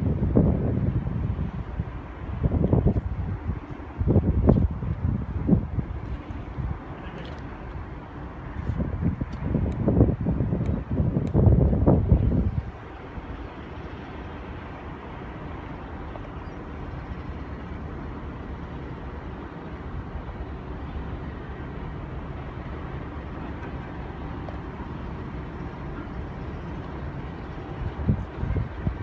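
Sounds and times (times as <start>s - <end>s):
locomotive engines rumbling: 0.0s - 29.0s.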